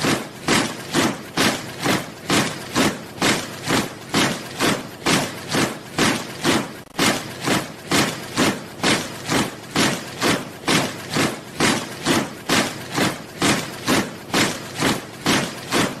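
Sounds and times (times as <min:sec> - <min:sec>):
soldiers marching in step: 0:00.0 - 0:16.0.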